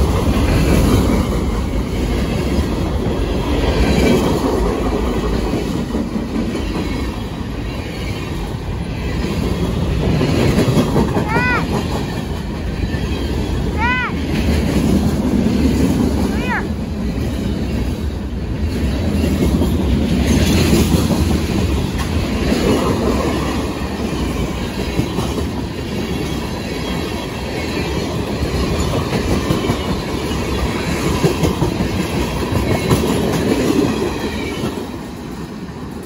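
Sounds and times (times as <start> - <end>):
train wheels clattering over rail joints: 0.0 - 13.6, 17.0 - 36.0
train rumble: 0.0 - 36.0.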